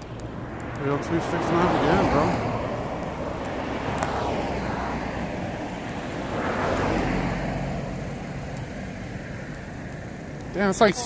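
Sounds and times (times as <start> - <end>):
low engine hum: 0.0 - 10.6
car passing: 0.0 - 11.0.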